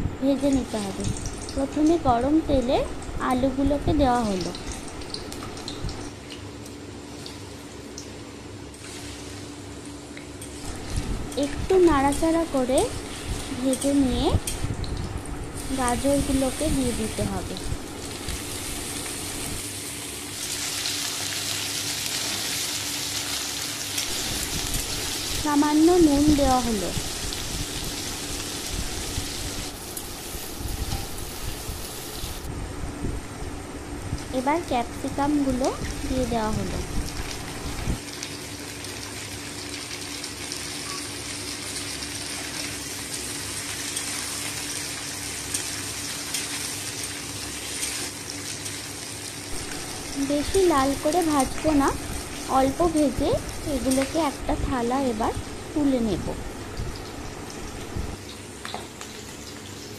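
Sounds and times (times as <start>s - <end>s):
vegetables sizzling in hot oil: 0.2s - 6.2s, 8.7s - 32.5s, 34.2s - 59.9s.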